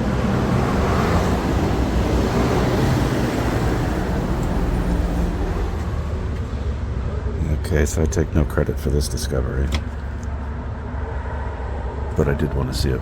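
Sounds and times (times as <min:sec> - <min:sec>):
vehicles driving past: 0:00.0 - 0:13.0.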